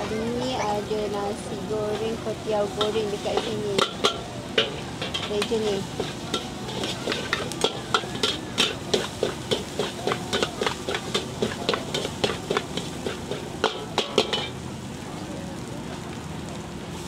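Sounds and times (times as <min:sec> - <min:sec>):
utensils clanking on a wok: 0:00.0 - 0:14.8
noodles sizzling: 0:00.0 - 0:17.0.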